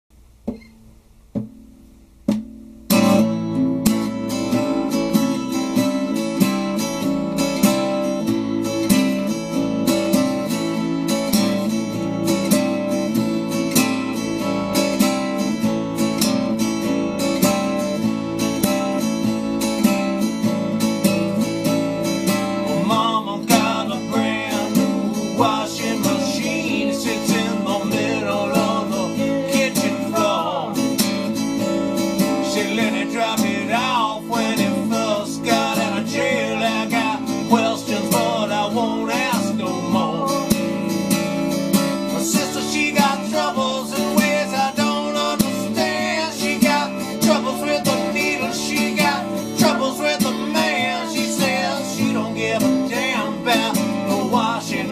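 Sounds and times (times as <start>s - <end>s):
acoustic guitar strumming: 0.2s - 54.9s.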